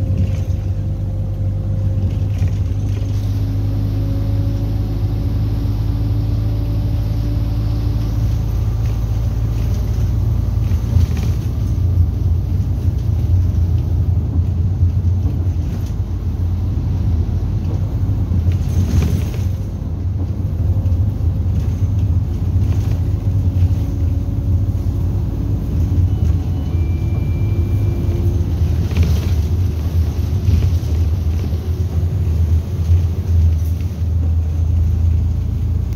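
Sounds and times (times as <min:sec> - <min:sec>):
vehicle engine and road drone: 0:00.0 - 0:35.9.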